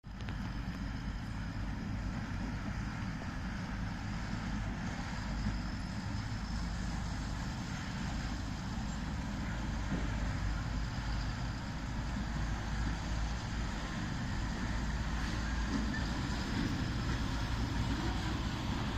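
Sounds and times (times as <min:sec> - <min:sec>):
road noise: 0:00.0 - 0:18.9
truck engine rumble: 0:00.0 - 0:18.9.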